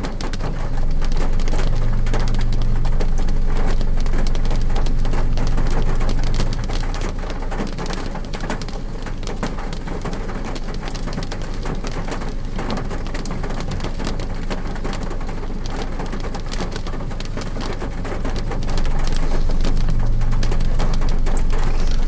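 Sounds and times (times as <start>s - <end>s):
rain drumming on car roof: 0.0s - 22.0s
steady low hum: 0.0s - 22.0s.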